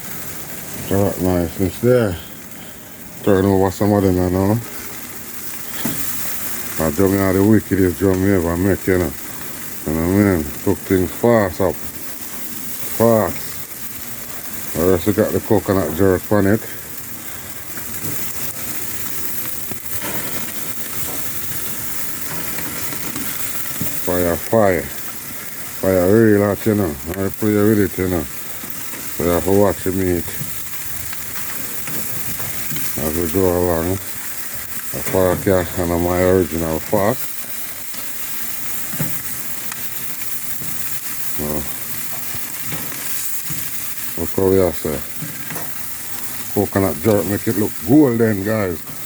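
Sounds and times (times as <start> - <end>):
chicken sizzling on a grill: 0.0 - 49.0.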